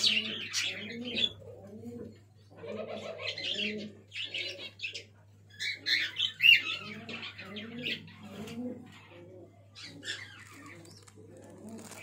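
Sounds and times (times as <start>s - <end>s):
pigeon cooing: 0.0s - 12.0s
young pigeons peeping: 0.0s - 12.0s.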